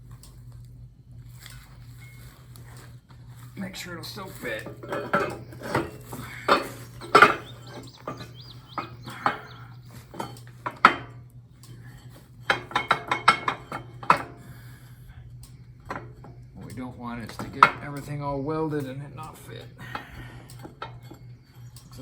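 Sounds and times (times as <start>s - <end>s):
steady low hum: 0.0s - 22.0s
steel parts clanking: 3.5s - 22.0s.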